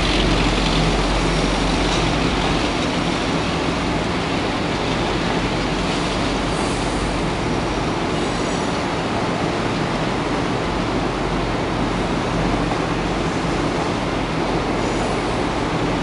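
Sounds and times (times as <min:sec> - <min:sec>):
train wheels on track: 0:00.0 - 0:16.0.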